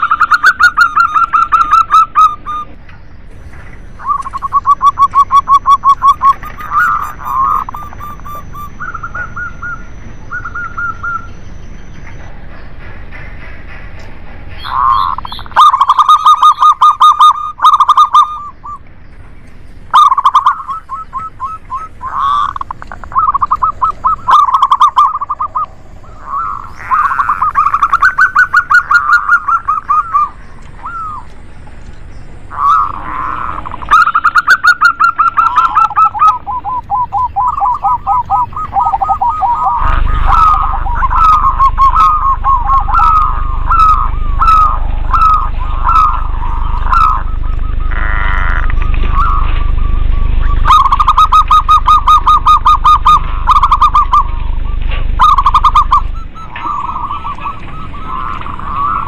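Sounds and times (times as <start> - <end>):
doves cooing: 0.0 - 13.8, 14.6 - 59.0.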